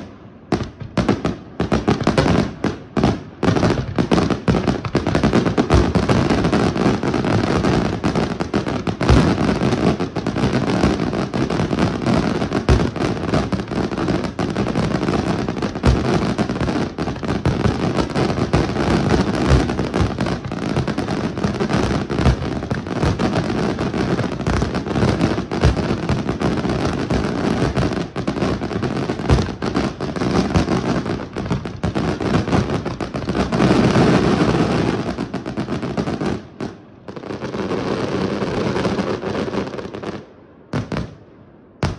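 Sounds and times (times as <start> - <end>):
heavy firework bangs: 0.0 - 39.7
fireworks bursts and crackling: 0.0 - 41.9.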